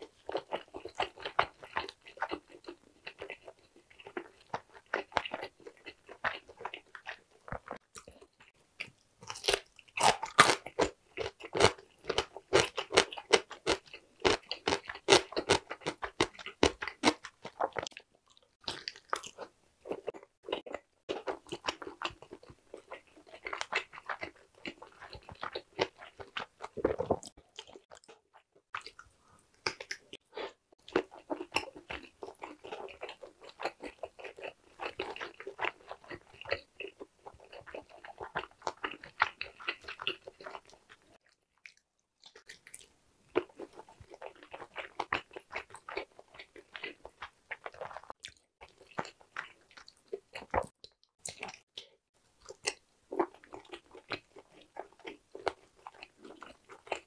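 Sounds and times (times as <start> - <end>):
person chewing and mouth smacks: 0.0 - 57.0.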